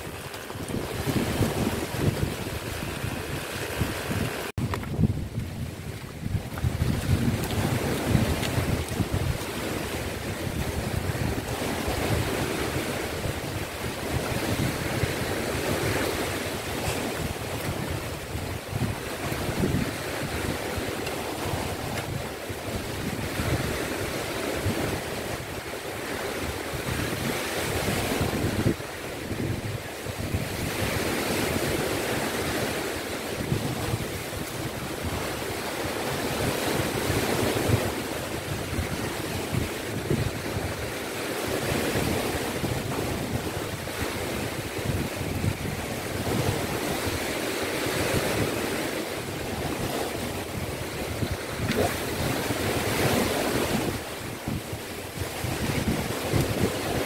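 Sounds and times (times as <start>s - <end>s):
sea surf washing in: 0.0s - 57.0s
wind buffeting microphone: 0.0s - 57.0s.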